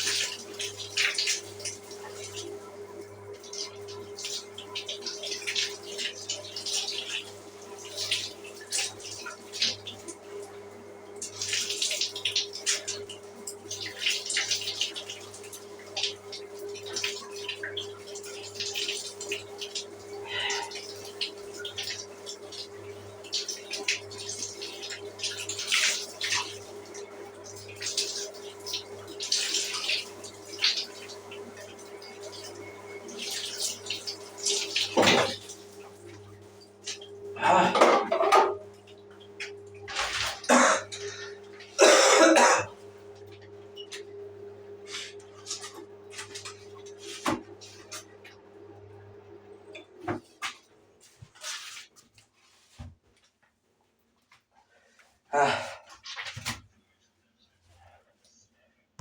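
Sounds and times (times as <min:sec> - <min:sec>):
shower water splashing: 0:00.0 - 0:44.1, 0:44.7 - 0:48.4, 0:50.0 - 0:52.9.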